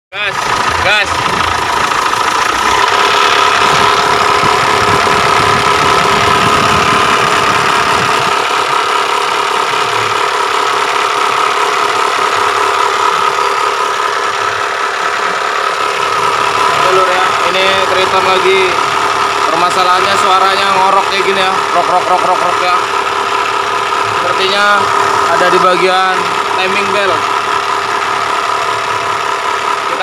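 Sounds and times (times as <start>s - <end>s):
diesel engine rough growl: 0.1s - 30.0s.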